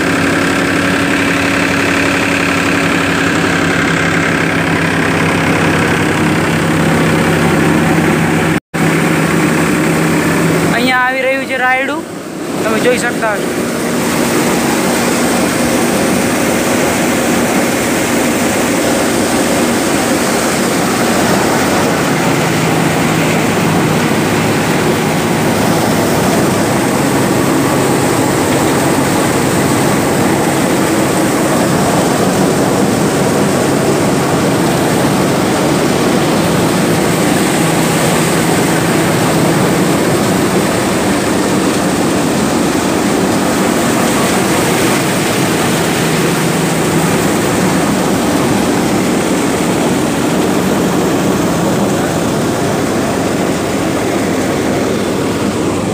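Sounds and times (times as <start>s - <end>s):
thresher running: 0.0s - 55.9s.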